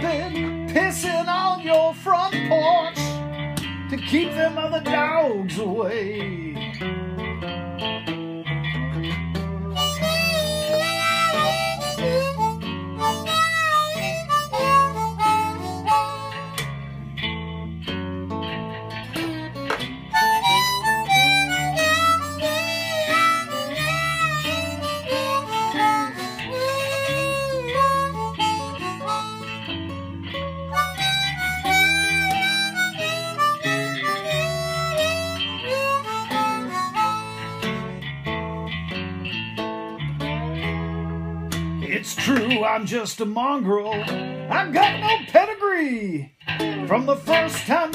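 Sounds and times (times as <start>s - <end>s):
harmonica melody: 0.0s - 2.3s, 2.9s - 41.8s
strummed acoustic guitar: 0.0s - 47.9s.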